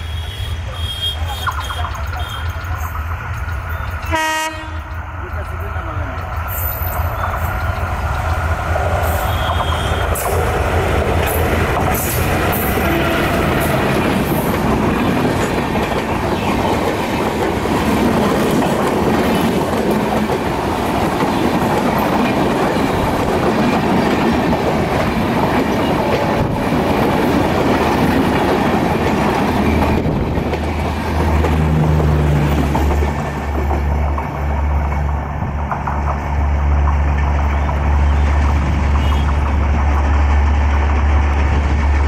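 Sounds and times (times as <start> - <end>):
train rushing past: 0.0 - 42.0.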